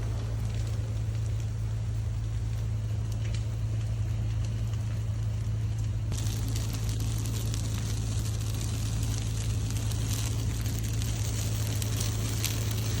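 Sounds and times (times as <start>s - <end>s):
burning brush crackling: 0.0s - 13.0s
loud steady low hum: 0.0s - 13.0s.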